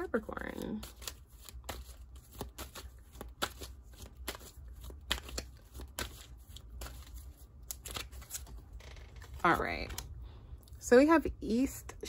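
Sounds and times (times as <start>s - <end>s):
cards being shuffled by hand: 0.4s - 10.1s.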